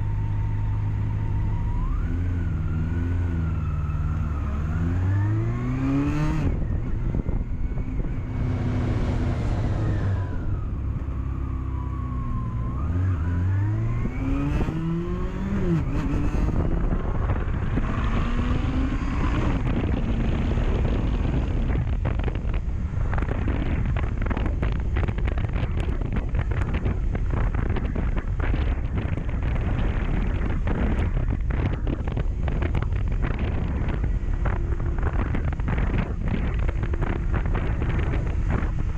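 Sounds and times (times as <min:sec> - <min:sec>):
motorcycle engine accelerating: 0:00.0 - 0:38.9
wind buffeting microphone: 0:00.0 - 0:38.9.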